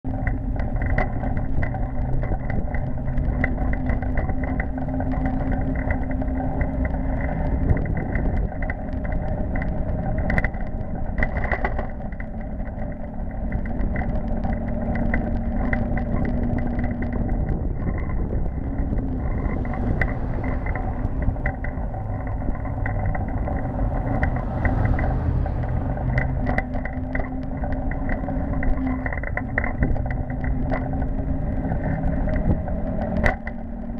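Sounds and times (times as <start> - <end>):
clicks from bumps: 0.0 - 33.9
wind and tyres rumbling on road: 0.0 - 33.9.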